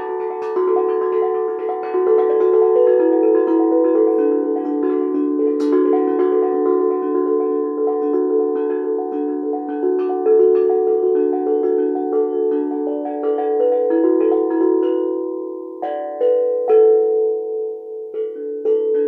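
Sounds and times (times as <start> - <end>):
handpan ringing notes: 0.0 - 19.0.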